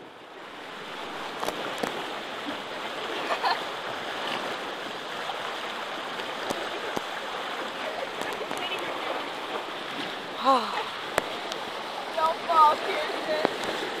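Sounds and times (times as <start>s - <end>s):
water rushing along hull: 0.0s - 14.0s.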